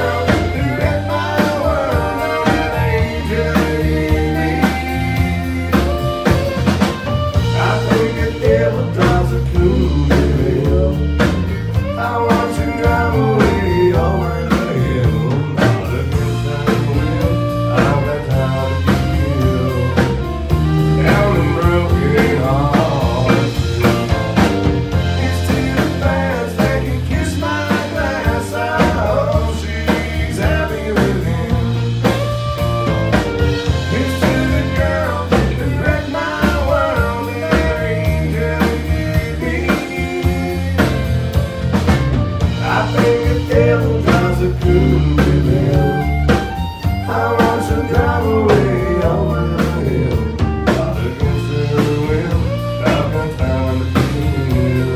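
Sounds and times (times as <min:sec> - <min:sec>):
acoustic and electric guitars: 0:00.0 - 0:54.9
drum kit: 0:00.0 - 0:54.9
fiddle: 0:00.0 - 0:54.9.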